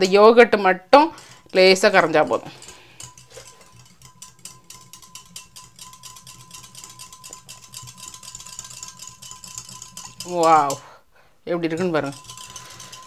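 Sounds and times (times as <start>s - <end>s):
whisk wires clicking against glass: 1.1s - 10.9s, 11.6s - 13.0s.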